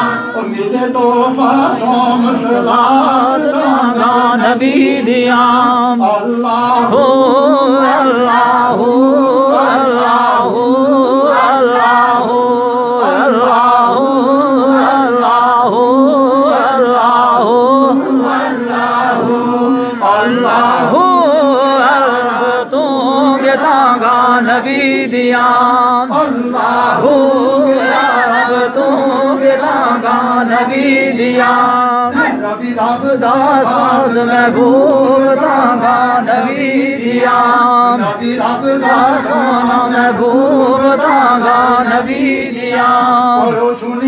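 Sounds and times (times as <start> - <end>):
men and boys chanting: 0.0 - 44.0.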